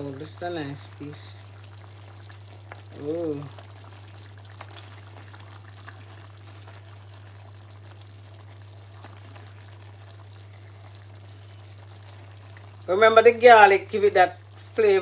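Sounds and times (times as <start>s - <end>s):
steady low hum and hiss: 0.0s - 15.0s.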